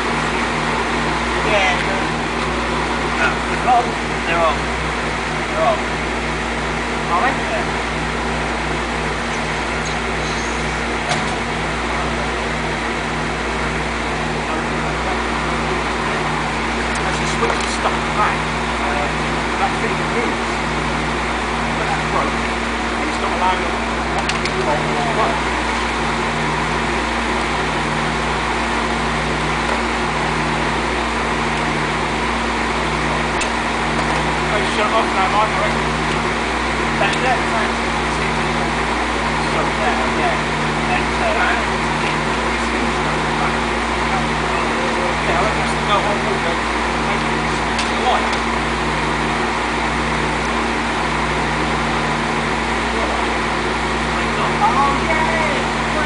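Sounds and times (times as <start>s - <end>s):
car engine humming: 0.0s - 56.0s
radiator fans rushing: 0.0s - 56.0s.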